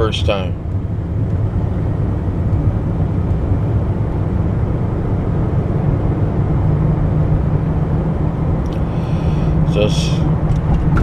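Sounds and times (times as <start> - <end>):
car engine rumbling: 0.0 - 11.0
road noise: 0.0 - 11.0.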